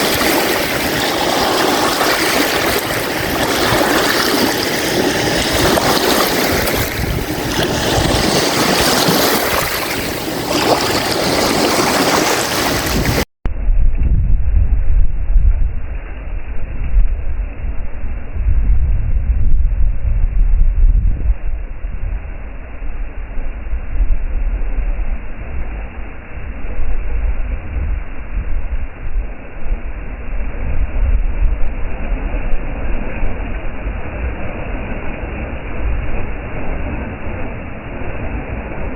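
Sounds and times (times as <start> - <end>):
choppy lake waves: 0.0 - 13.3, 14.8 - 38.9
strong wind: 0.0 - 38.9
wind buffeting microphone: 0.0 - 38.9.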